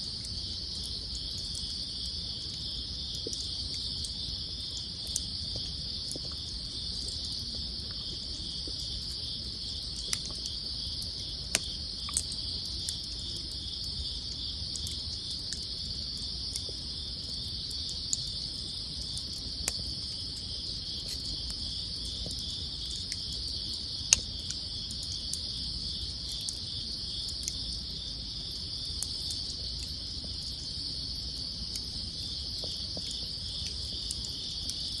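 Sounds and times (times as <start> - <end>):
campfire crackling and popping: 0.0 - 35.0
insects chirping: 0.0 - 35.0.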